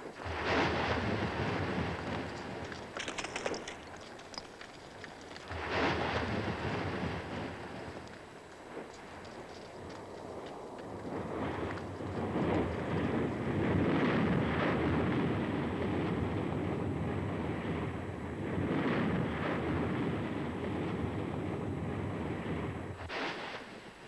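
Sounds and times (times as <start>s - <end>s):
volcanic eruption rumble: 0.0s - 24.0s.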